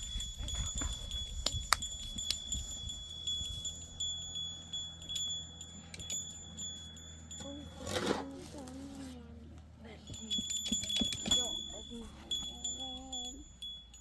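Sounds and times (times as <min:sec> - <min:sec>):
steady high ringing tone: 0:00.0 - 0:07.8, 0:10.0 - 0:14.0
small metal bells jingling: 0:00.0 - 0:14.0.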